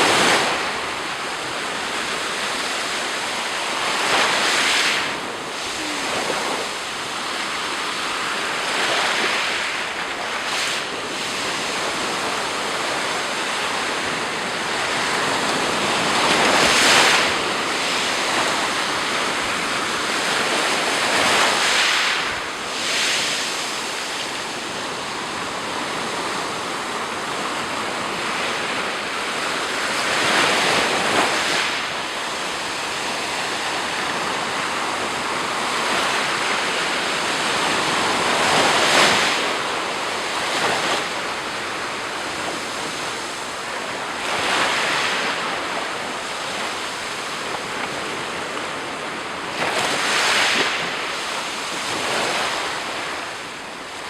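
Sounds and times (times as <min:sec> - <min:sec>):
surf breaking on shore: 0:00.0 - 0:54.0
wind on microphone: 0:00.0 - 0:54.0.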